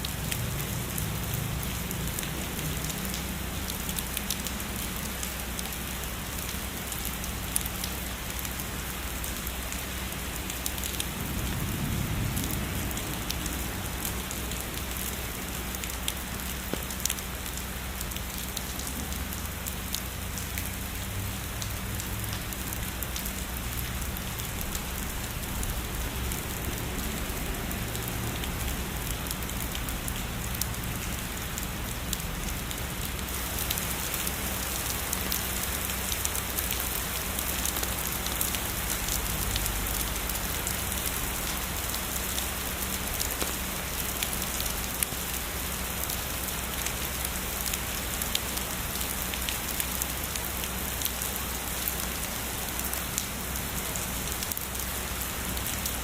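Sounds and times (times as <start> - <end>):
heavy rain on a surface: 0.0 - 56.0.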